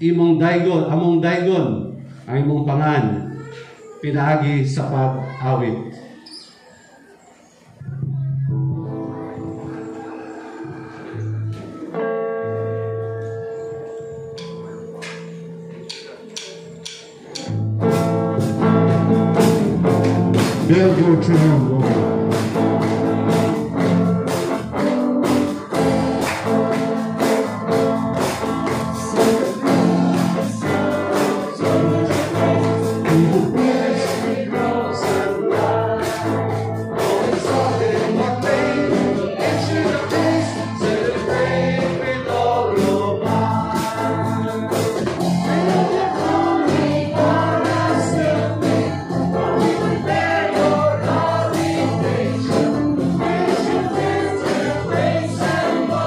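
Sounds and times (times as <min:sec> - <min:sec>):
worship band playing: 0:00.0 - 0:56.0
voices singing: 0:03.3 - 0:56.0.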